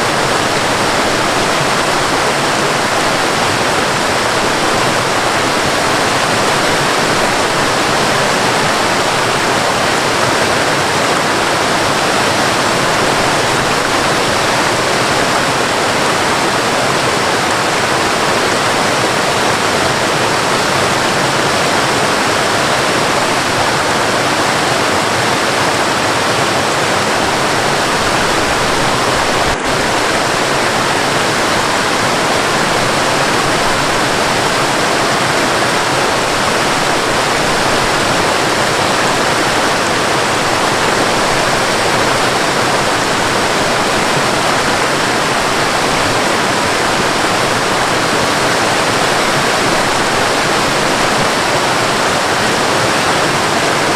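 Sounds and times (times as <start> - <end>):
rain: 0.0 - 53.9
waterfall rushing: 0.0 - 53.9.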